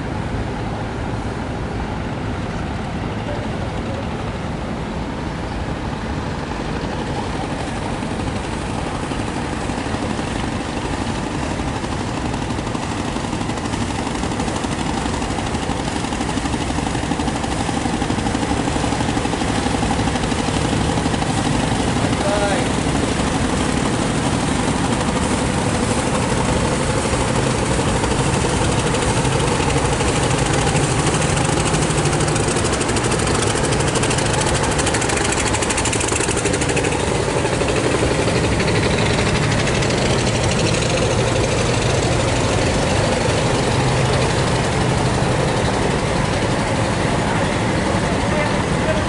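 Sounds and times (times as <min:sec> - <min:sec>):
train running on bridge: 0:00.0 - 0:49.0.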